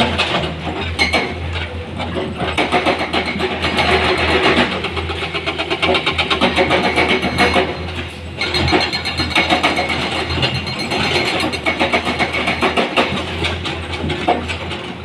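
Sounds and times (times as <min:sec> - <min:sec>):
diesel engine clattering: 0:00.0 - 0:15.0.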